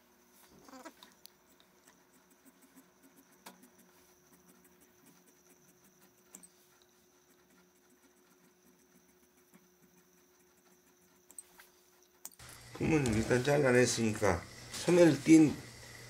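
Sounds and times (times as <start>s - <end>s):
shears snipping fabric: 1.9s - 16.0s.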